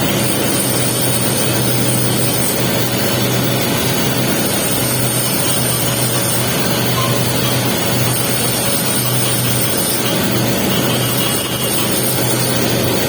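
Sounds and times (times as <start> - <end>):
welding arc crackling: 0.0 - 13.0.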